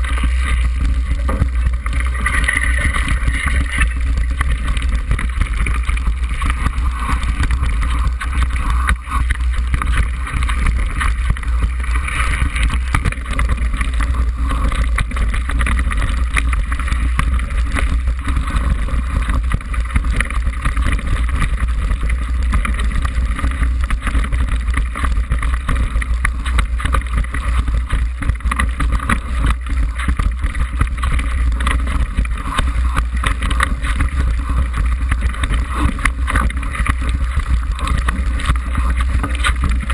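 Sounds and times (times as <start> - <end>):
bike rattling over rocks: 0.0 - 39.9.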